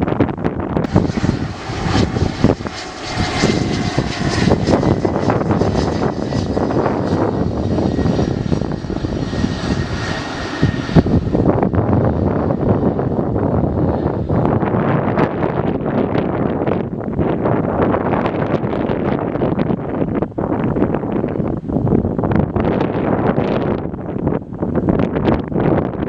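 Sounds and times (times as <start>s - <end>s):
jet engines roaring: 0.0s - 26.0s
wind buffeting microphone: 0.0s - 26.0s.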